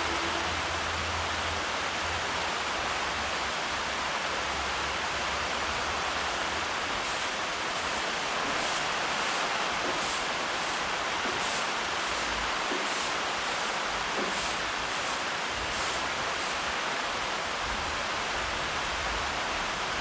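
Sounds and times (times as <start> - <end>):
rain falling steadily: 0.0 - 20.0.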